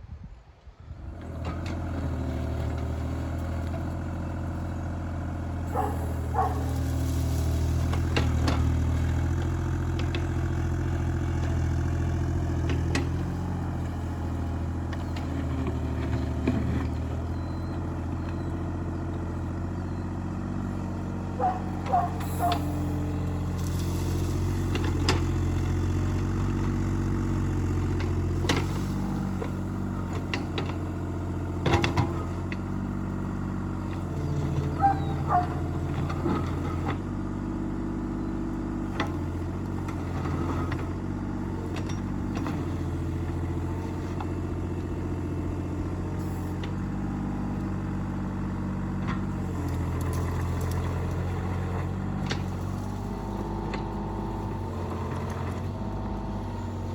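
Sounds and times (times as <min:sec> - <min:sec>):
excavator engine running: 0:00.9 - 0:56.9.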